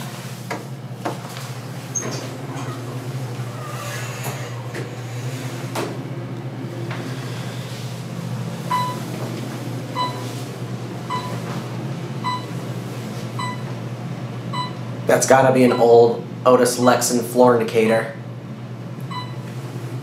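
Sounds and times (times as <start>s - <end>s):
elevator hum: 0.0s - 20.0s.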